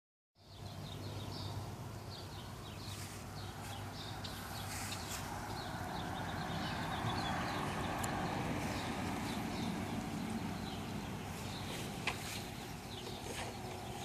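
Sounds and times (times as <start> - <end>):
birds chirping: 0.4 - 14.0.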